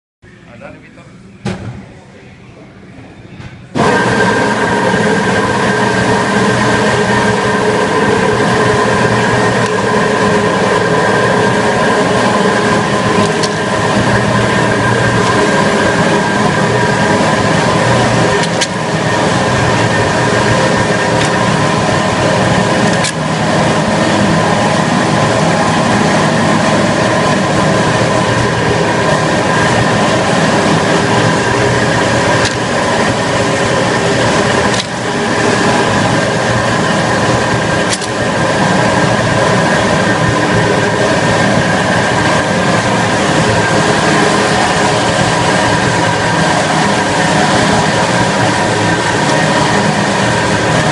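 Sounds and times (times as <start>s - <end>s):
meat grinder motor humming: 3.8s - 50.9s.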